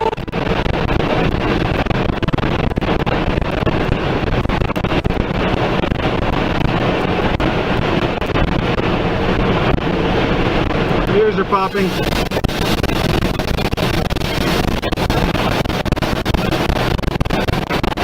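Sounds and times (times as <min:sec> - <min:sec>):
wind roaring into microphone: 0:00.0 - 0:18.0.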